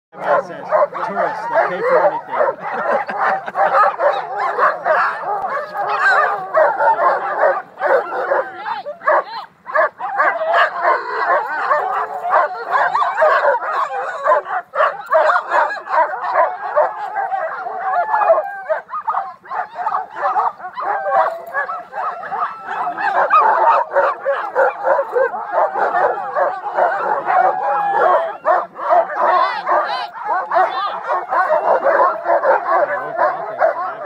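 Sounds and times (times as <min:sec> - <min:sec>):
sled dogs barking and whining: 0:00.1 - 0:34.0.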